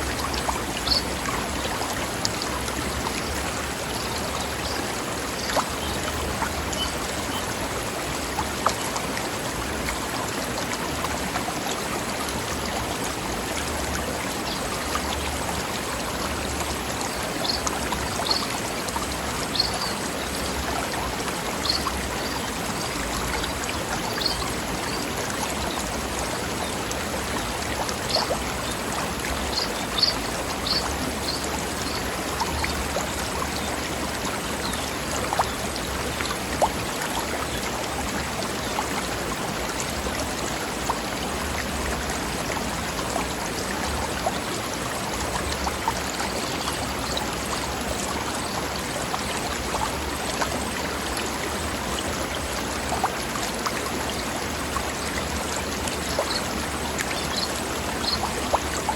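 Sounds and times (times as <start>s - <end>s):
water rushing over rocks: 0.0s - 58.9s.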